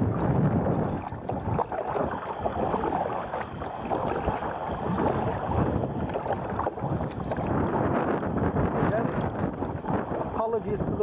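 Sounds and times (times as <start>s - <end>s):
water splashing around kayak: 0.0s - 11.0s
wind buffeting microphone: 0.0s - 11.0s.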